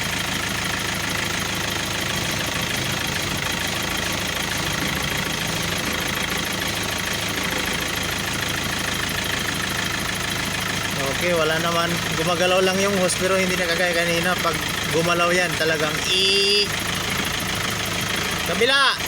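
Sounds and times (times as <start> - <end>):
car engine idling: 0.0 - 19.0
power steering pump running: 0.0 - 19.0.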